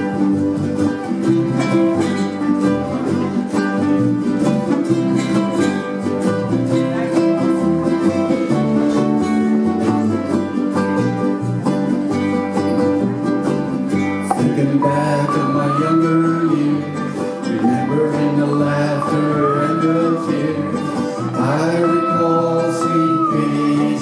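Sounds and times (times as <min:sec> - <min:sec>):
ukulele ensemble strumming chords: 0:00.0 - 0:24.0.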